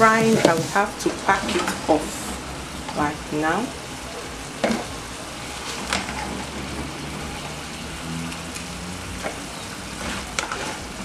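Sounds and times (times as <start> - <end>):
oil sizzling with frying chicken: 0.0 - 11.0.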